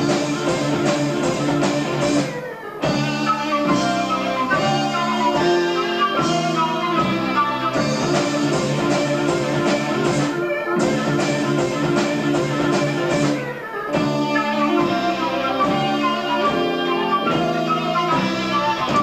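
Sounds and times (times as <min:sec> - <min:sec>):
electric guitar: 0:00.0 - 0:19.0
live rock band playing: 0:00.0 - 0:19.0
steady held notes: 0:00.0 - 0:19.0.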